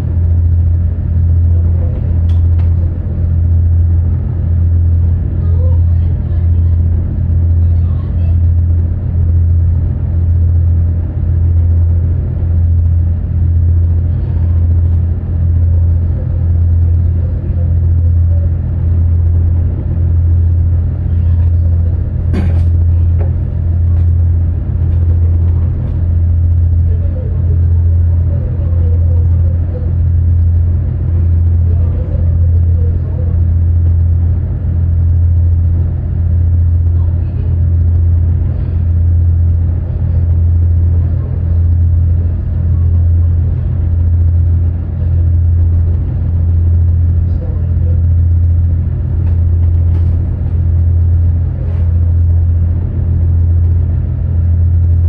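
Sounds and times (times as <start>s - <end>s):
boat engine drone: 0.0s - 55.0s.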